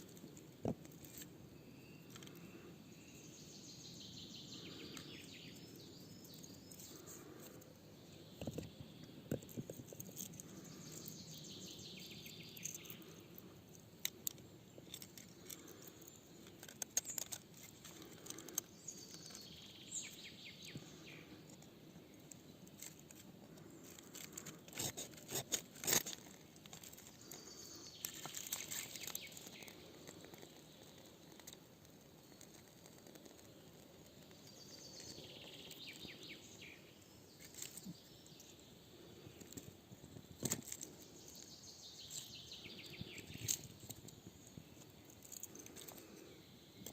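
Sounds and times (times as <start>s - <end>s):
birds singing: 1.1s - 25.1s, 26.0s - 31.6s, 32.3s - 39.7s, 40.4s - 46.9s.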